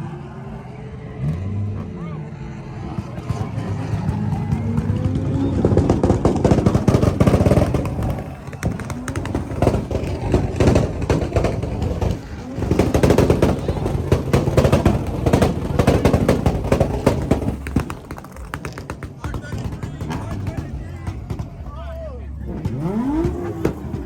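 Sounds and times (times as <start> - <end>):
car engine rumble: 0.0 - 24.0
exhaust popping and cracking: 2.8 - 24.0.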